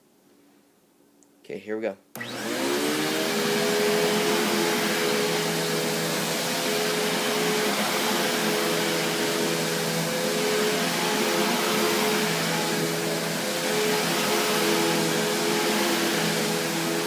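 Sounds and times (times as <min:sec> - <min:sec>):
vacuum cleaner running: 0:02.2 - 0:17.0.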